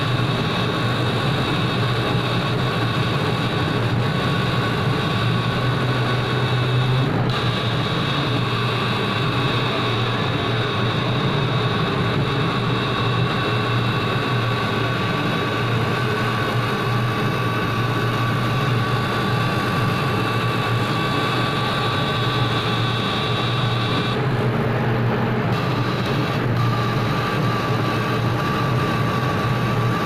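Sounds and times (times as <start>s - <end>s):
high machine whine: 0.0s - 30.0s
laser cutting machine hum: 0.0s - 30.0s.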